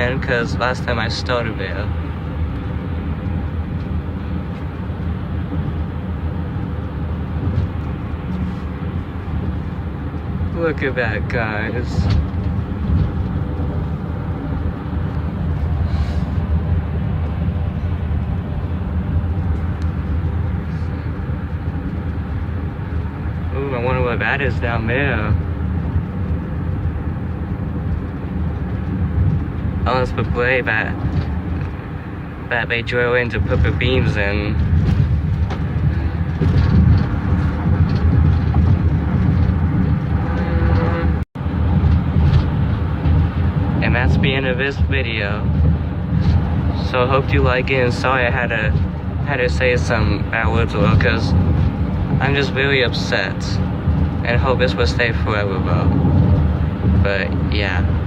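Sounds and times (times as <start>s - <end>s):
car tyres rumbling on highway: 0.0s - 58.0s.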